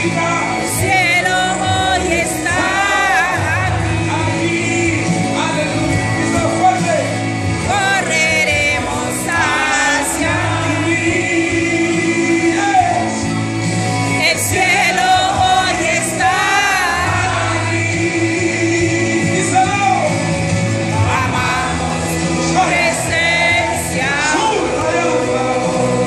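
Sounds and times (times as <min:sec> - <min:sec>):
congregation singing along: 0:00.0 - 0:26.0
lead voice singing: 0:00.0 - 0:26.0.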